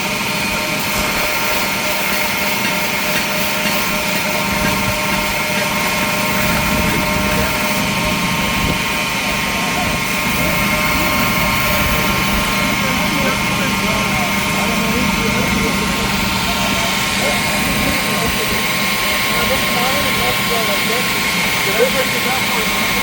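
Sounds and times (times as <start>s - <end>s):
belt grinder whining and grinding: 0.0s - 23.0s.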